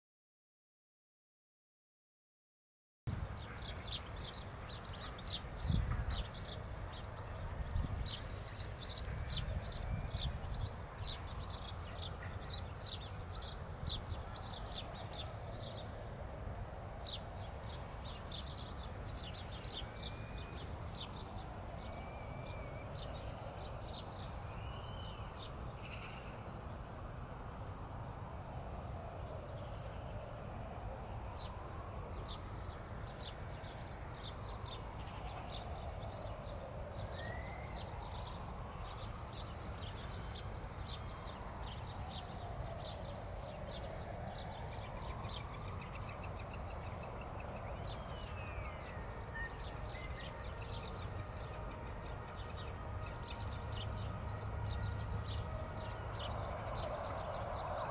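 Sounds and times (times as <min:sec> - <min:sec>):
city traffic rumble: 0:03.1 - 0:57.9.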